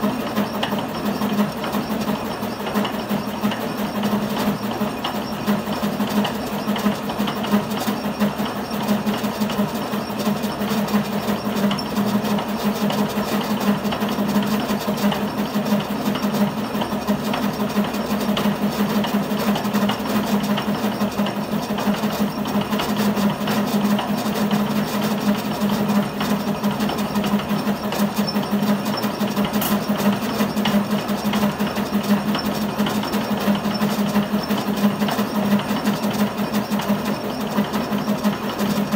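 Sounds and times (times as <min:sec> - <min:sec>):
fast rattle of cutting: 0:00.2 - 0:38.9.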